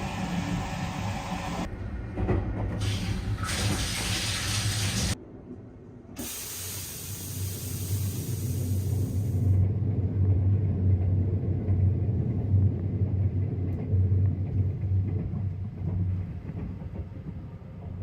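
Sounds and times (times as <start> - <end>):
moving train rumble: 0.0 - 18.0.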